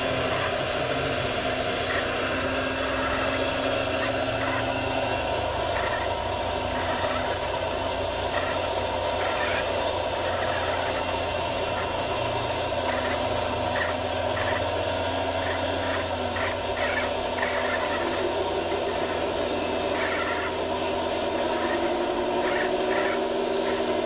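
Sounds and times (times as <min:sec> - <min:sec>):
steady mechanical drone: 0:00.0 - 0:24.0.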